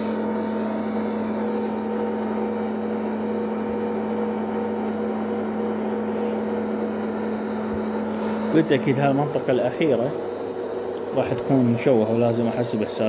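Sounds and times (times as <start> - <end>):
welding machine hum and whine: 0.0 - 13.0.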